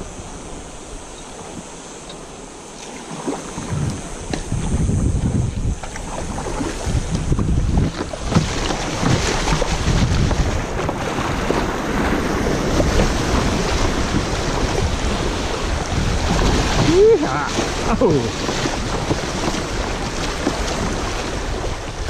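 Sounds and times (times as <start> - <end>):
river water rushing: 0.0 - 22.0
water splashing against kayak hull: 0.0 - 22.0
wind buffeting microphone: 0.0 - 22.0.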